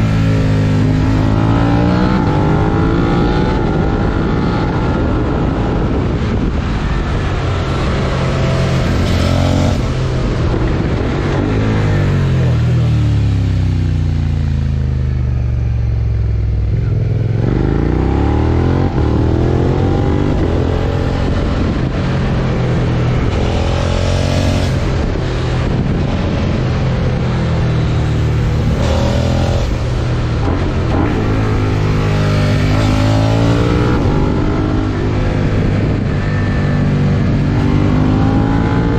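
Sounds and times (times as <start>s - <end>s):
motorcycle engine revving: 0.0s - 15.0s, 15.9s - 38.9s.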